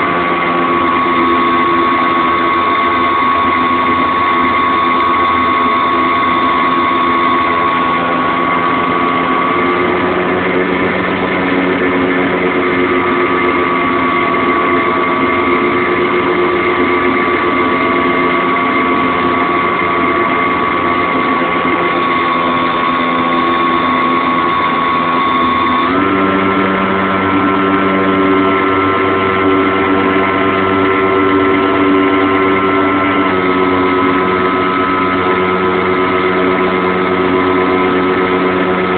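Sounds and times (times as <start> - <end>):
model airplane motor whine: 0.0 - 38.9.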